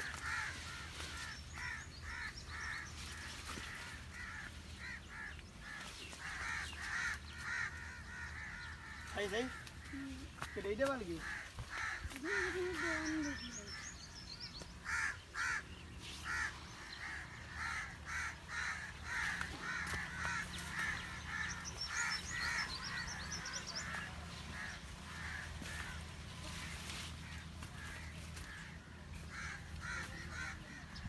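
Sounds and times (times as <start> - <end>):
birds making harsh calls: 0.0 - 31.0.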